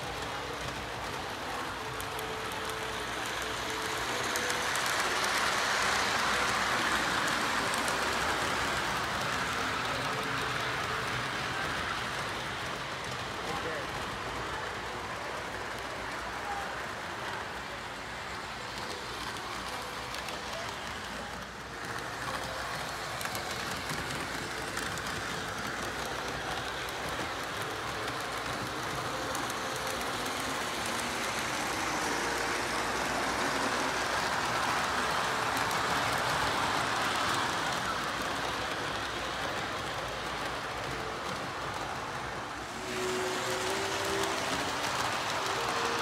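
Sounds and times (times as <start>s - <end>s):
model train wheels rattling on track: 0.0s - 46.0s.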